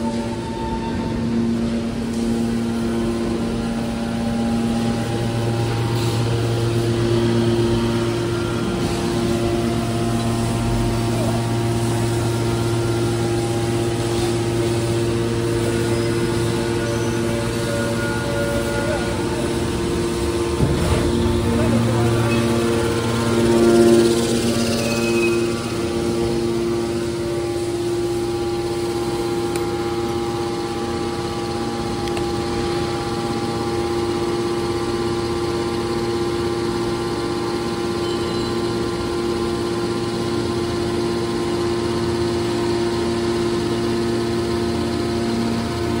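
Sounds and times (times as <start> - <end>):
baler motor and pump humming: 0.0 - 46.0.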